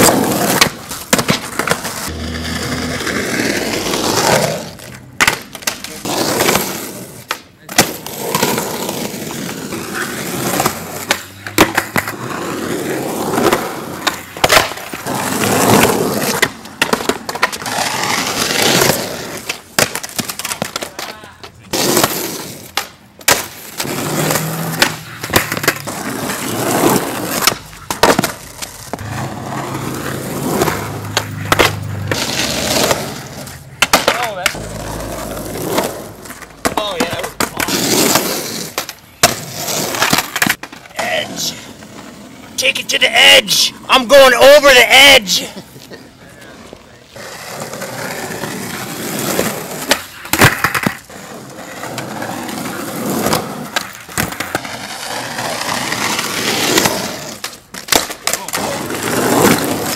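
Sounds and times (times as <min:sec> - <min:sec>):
skateboard clacking on ground: 0:00.0 - 0:41.1, 0:46.6 - 0:59.9
skateboard wheels rolling on asphalt: 0:00.0 - 0:59.9.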